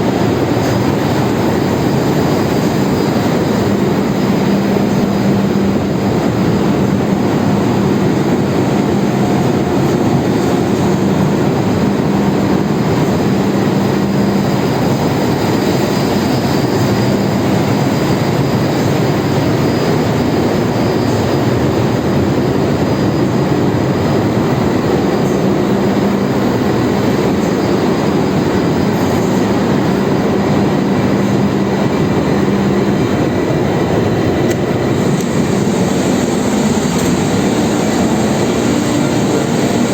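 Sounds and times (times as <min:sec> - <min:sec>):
constant low hum: 0:00.0 - 0:39.9
engine room machinery din: 0:00.0 - 0:39.9.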